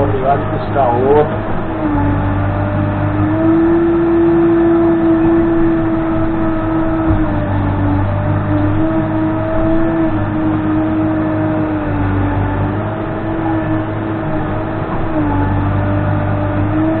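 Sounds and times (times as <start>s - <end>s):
diesel engine whine: 0.0s - 17.0s.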